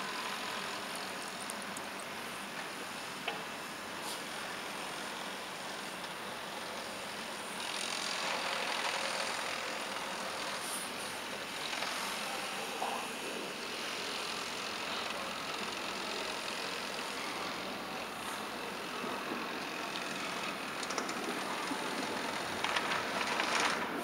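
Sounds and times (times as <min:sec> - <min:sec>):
distant trains running: 0:00.0 - 0:24.0.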